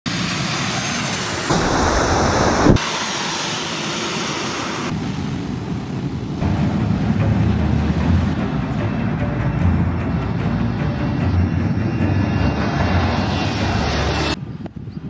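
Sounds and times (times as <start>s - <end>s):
jet engine roar: 0.1s - 14.6s.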